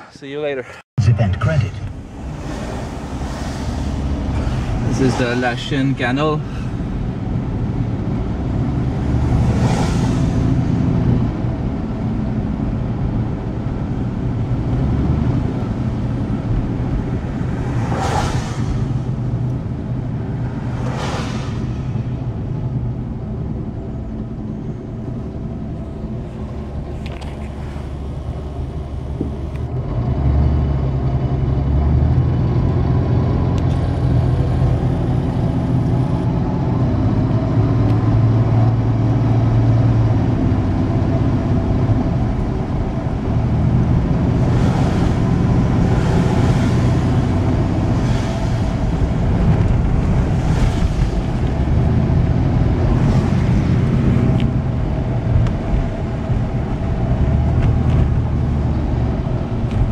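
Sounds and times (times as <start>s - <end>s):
road noise: 0.0s - 59.9s
truck engine: 1.0s - 59.9s.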